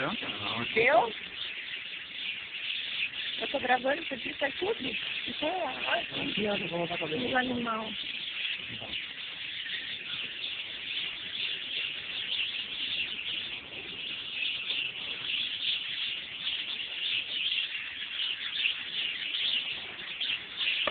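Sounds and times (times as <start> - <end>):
many birds chirping: 0.0 - 20.9.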